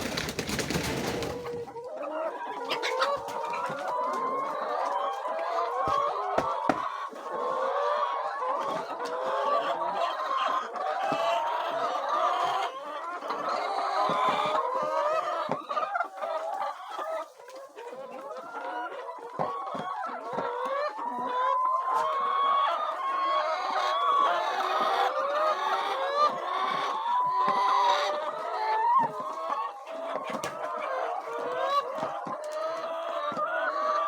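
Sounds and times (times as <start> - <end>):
chickens clucking and calling: 0.0 - 34.0.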